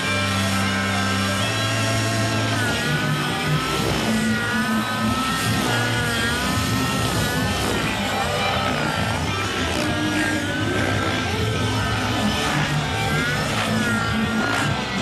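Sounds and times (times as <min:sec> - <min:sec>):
model helicopter engine whine: 0:00.0 - 0:15.0.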